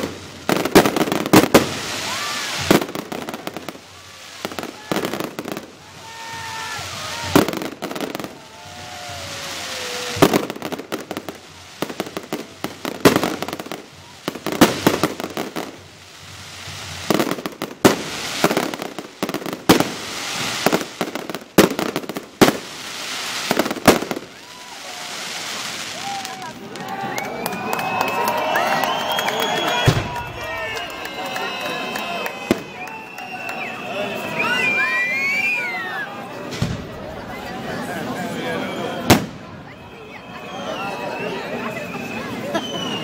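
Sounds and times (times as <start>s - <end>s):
crackling hiss of fireworks: 0.0s - 43.0s.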